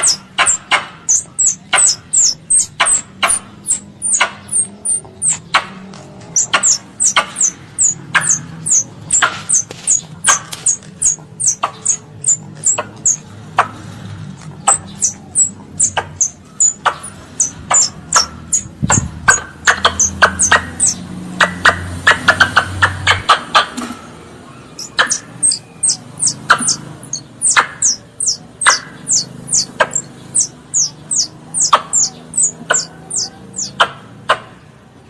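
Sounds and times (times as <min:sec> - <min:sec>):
squirrel chirping: 0:00.0 - 0:13.8, 0:14.5 - 0:23.8, 0:24.6 - 0:34.4.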